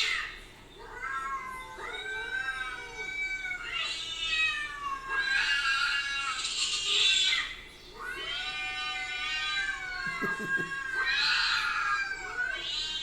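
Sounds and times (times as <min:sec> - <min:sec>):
cat yowling: 0:00.0 - 0:13.0.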